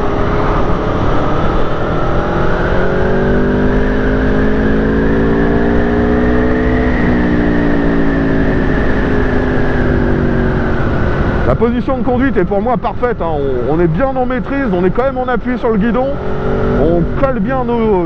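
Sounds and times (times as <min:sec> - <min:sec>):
motorcycle engine revving: 0:00.0 - 0:12.2, 0:13.4 - 0:18.0.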